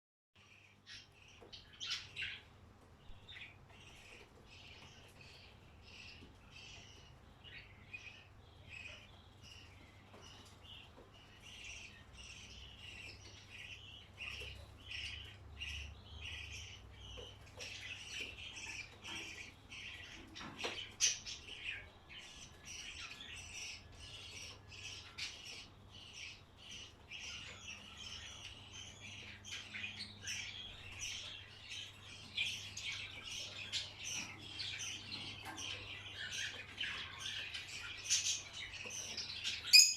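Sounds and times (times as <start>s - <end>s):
small birds chirping: 0.4s - 39.9s.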